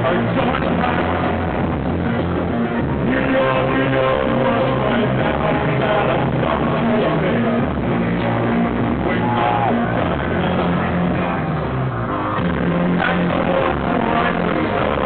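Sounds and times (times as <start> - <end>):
live synthpop band: 0.0 - 15.0
synth bass line: 0.0 - 15.0.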